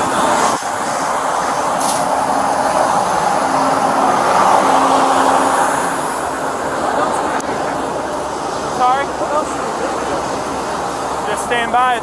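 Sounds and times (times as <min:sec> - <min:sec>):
heavy diesel engines running: 0:00.0 - 0:12.0.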